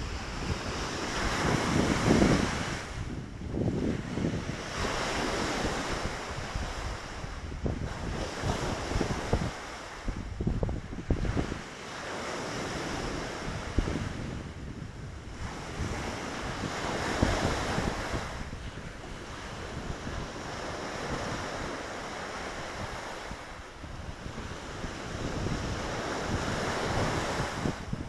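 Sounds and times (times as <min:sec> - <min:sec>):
waves washing onto shore: 0:00.0 - 0:28.0
wind gusting on microphone: 0:00.0 - 0:28.0.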